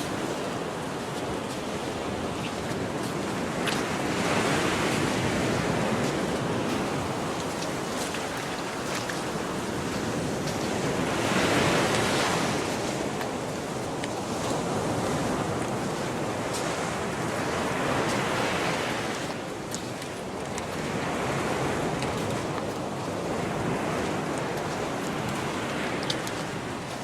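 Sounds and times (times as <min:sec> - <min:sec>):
small waves washing onto beach: 0:00.0 - 0:27.0.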